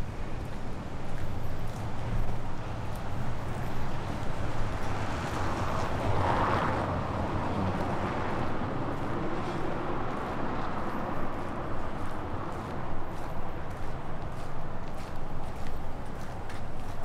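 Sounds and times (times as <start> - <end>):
vehicle passing: 2.2 - 17.0.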